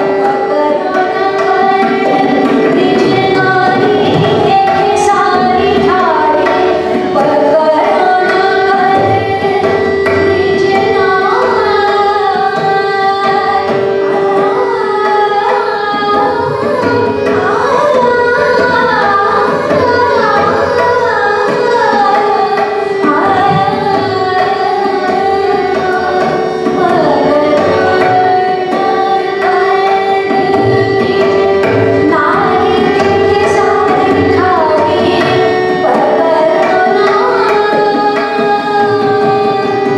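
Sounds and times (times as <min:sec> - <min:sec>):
tabla: 0:00.0 - 0:39.9
woman singing: 0:00.0 - 0:39.9.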